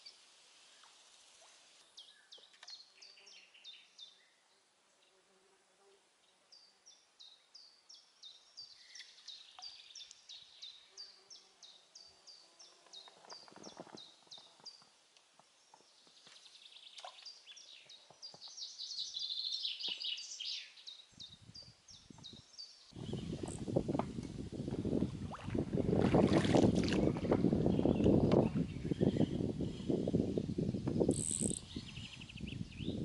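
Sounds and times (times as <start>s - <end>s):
songbirds chirping: 0.0s - 5.2s, 6.2s - 24.8s, 26.9s - 33.0s.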